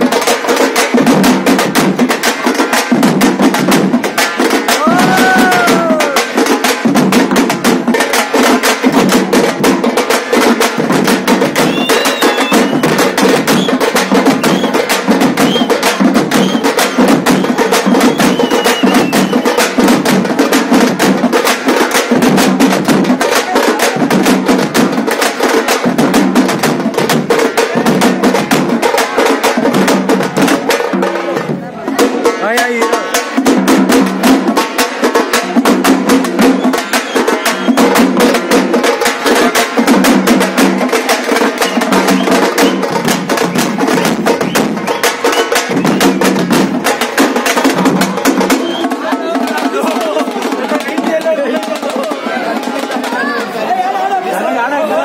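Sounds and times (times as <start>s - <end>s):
frame drums beaten fast: 0.0s - 55.0s.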